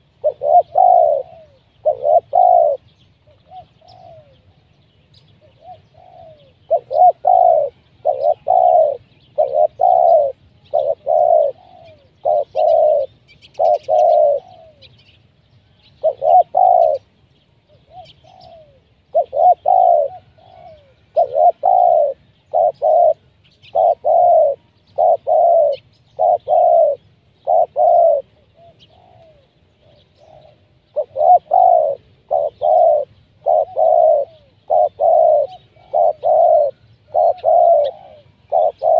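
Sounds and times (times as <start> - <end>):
dove cooing: 0.0 - 15.2, 15.8 - 38.9.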